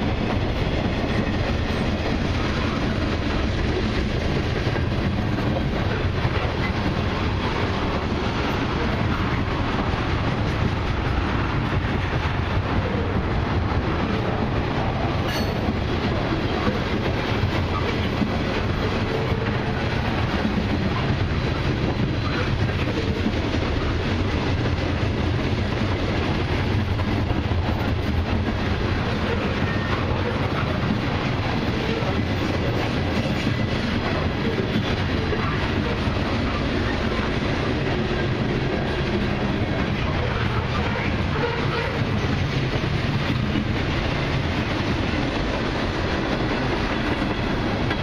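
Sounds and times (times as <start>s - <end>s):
train wheels rolling on rails: 0.0s - 48.0s.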